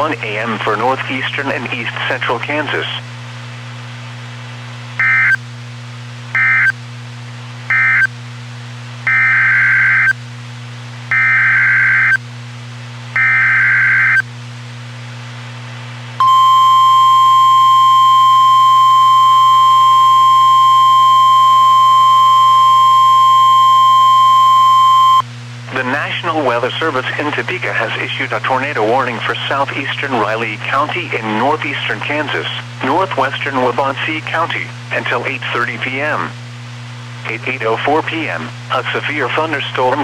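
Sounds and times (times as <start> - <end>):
constant low hum: 0.0 - 40.0.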